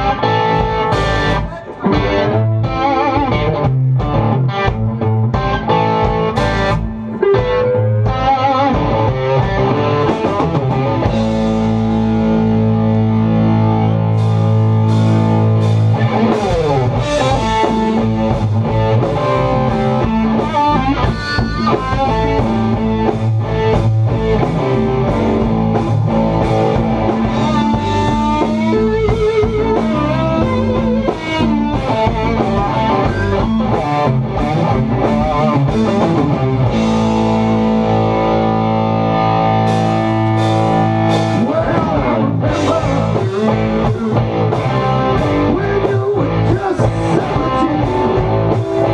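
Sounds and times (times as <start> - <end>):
bass guitar: 0.0 - 48.9
distorted electric guitar lead: 0.0 - 48.9
drum kit: 0.0 - 48.9.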